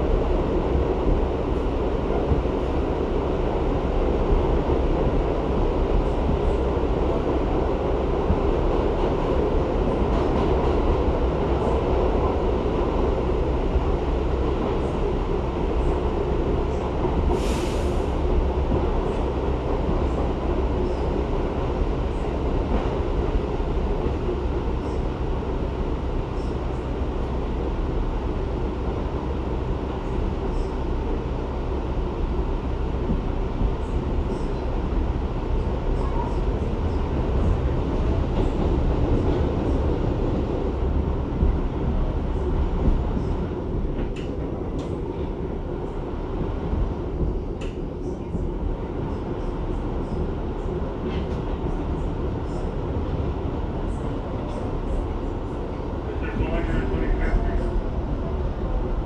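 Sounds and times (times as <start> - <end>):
subway wheels rumbling on rail: 0.0 - 59.0.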